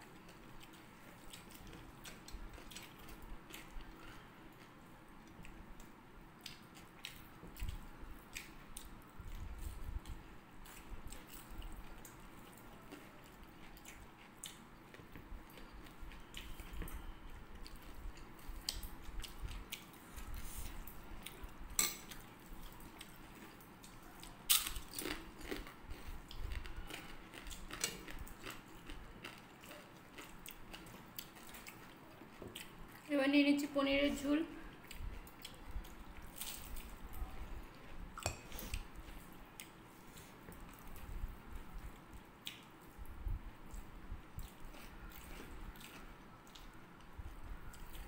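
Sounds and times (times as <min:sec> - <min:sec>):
people chewing: 0:00.0 - 0:33.1, 0:34.7 - 0:48.0.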